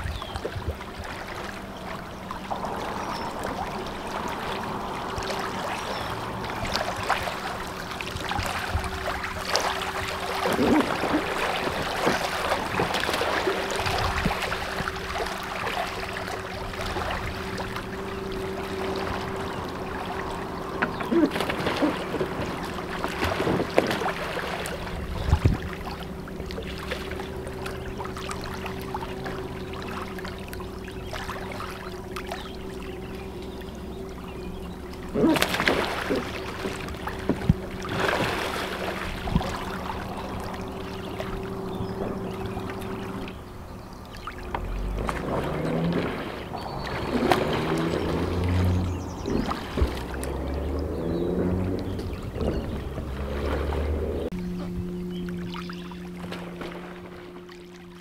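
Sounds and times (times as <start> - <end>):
paddle splashing in water: 0.0 - 58.0
water lapping along hull: 0.0 - 58.0.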